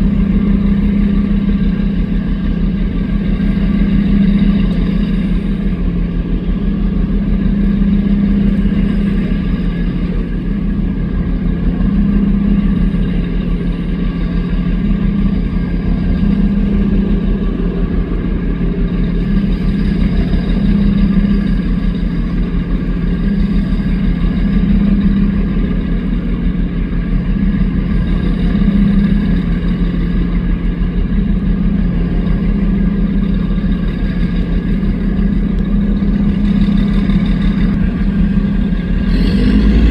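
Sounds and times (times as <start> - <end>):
motorboat engines droning: 0.0 - 39.9.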